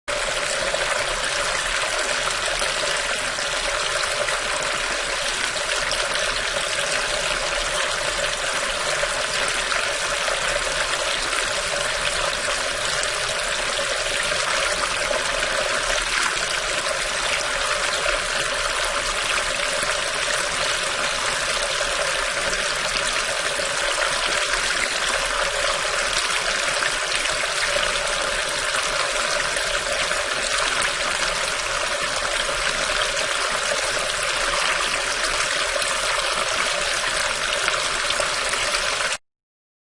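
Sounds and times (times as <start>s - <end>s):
water running through a drain: 0.1s - 39.2s.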